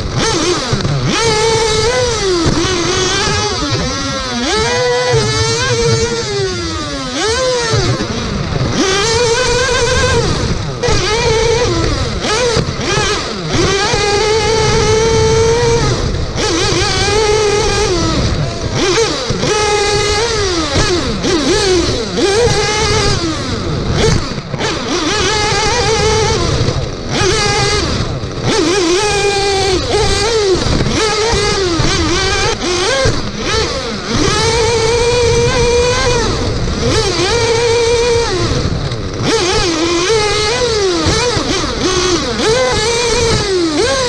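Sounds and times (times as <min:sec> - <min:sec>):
small two-stroke engine revving: 0:00.0 - 0:44.0.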